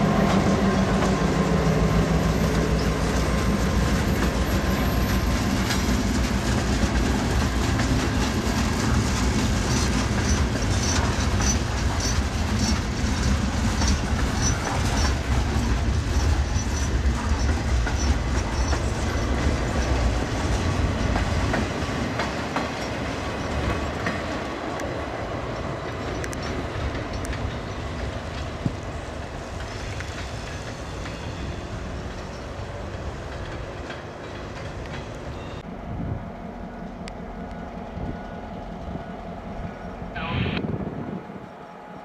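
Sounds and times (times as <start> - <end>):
train wheels clicking over rail joints: 0.0 - 35.6.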